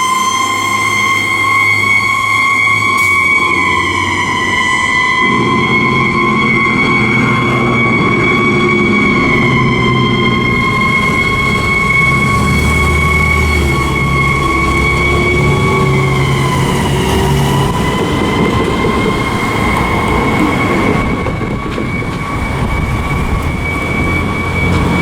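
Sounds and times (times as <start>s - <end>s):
fire engine siren wailing: 0.0s - 25.0s
truck engine running: 0.0s - 25.0s.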